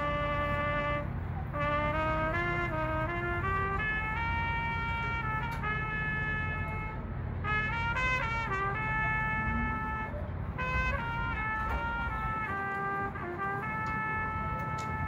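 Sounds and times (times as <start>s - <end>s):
marching band brass playing: 0.0s - 15.0s.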